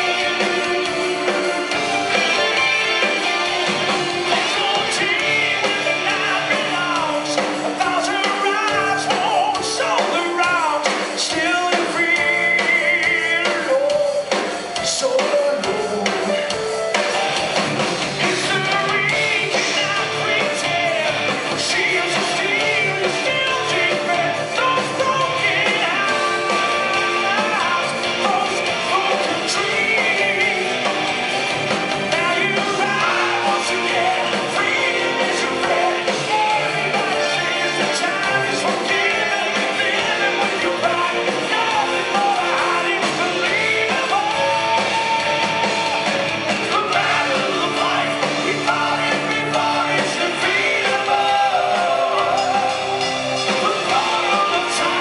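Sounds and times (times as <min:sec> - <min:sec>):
lead vocals: 0:00.0 - 0:55.0
live rock band: 0:00.0 - 0:55.0.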